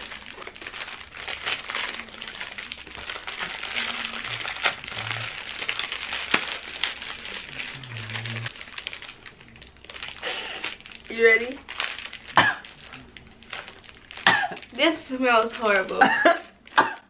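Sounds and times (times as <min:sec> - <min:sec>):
plastic wrappers crinkling: 0:00.0 - 0:17.0.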